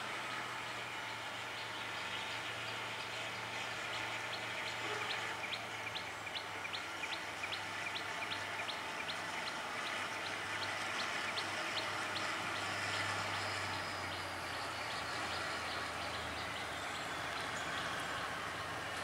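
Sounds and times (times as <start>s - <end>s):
diesel locomotive hum: 0.0s - 19.0s.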